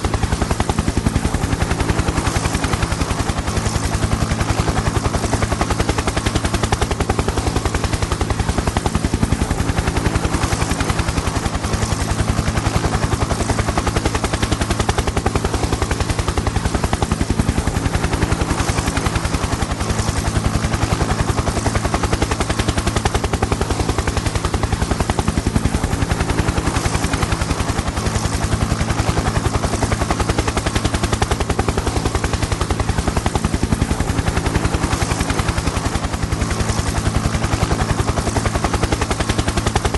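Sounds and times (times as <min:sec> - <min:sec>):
helicopter rotor blades chopping: 0:00.0 - 0:39.9.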